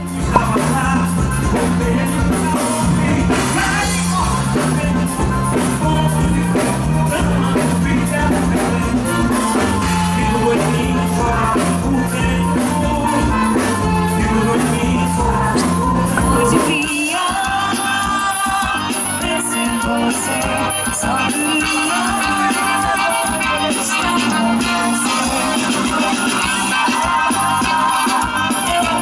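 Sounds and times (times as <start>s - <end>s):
band music with steady beat: 0.0s - 29.0s
bass line: 0.0s - 29.0s.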